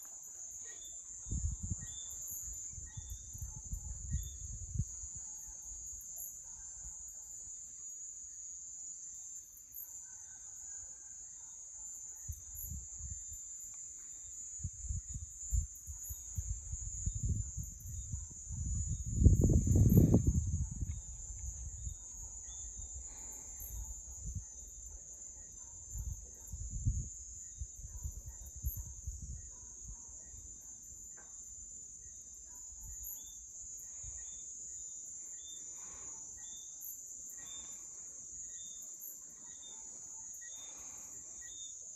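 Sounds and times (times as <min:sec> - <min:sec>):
crickets chirring: 0:00.0 - 0:41.9.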